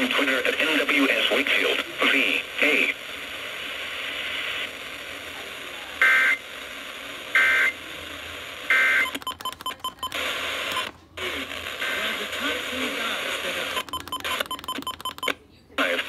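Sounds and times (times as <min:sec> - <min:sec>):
radio hiss: 0:00.0 - 0:08.8, 0:10.2 - 0:14.4, 0:15.7 - 0:16.0.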